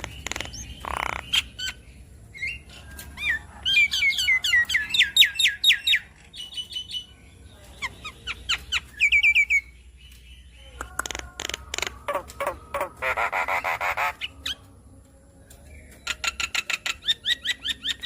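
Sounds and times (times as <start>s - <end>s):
myna bird singing: 0.0s - 18.0s.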